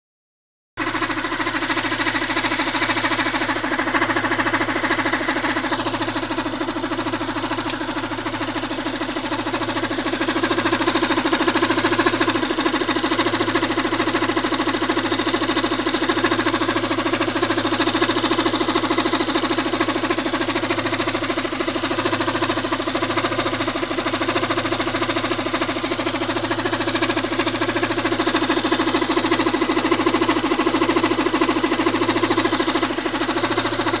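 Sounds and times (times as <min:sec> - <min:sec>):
car engine idling: 0:00.8 - 0:34.0
fast even engine knocking: 0:00.8 - 0:34.0.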